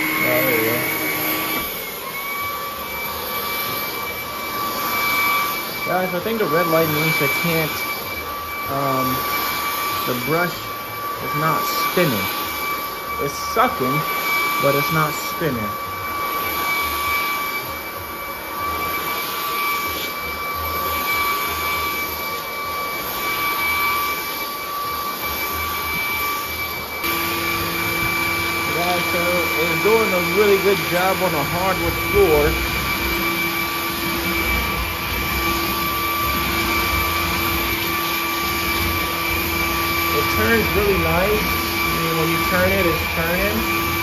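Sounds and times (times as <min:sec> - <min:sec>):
vacuum cleaner motor whine: 0:00.0 - 0:44.0
vacuum head rumbling over rug: 0:00.0 - 0:44.0.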